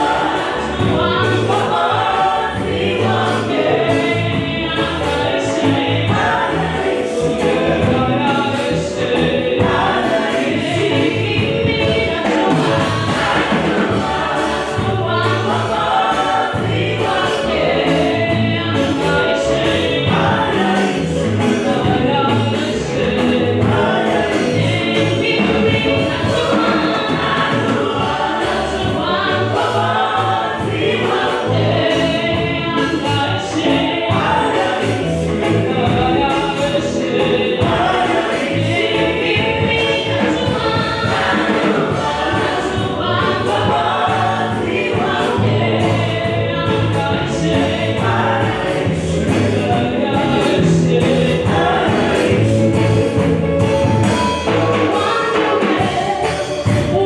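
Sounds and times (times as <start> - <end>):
gospel choir singing: 0.0 - 57.0.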